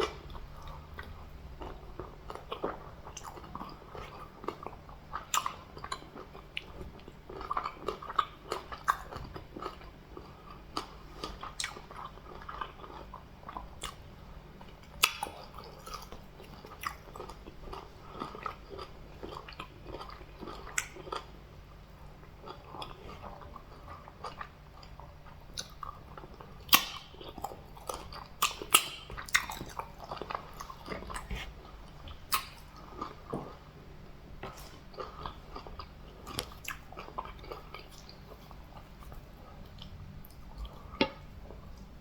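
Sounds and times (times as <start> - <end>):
close chewing and biting: 0.0 - 21.4, 22.0 - 33.8, 34.4 - 41.9.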